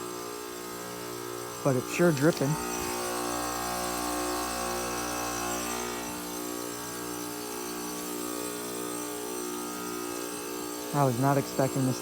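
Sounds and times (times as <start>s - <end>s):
heat pump compressor hum: 0.0s - 12.0s.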